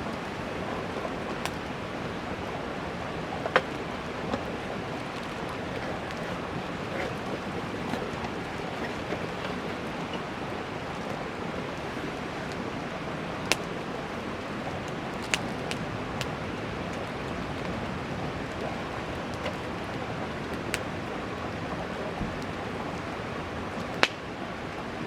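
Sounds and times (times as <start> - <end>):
fire crackles: 0.0 - 25.0
wood fire hissing: 0.1 - 25.0.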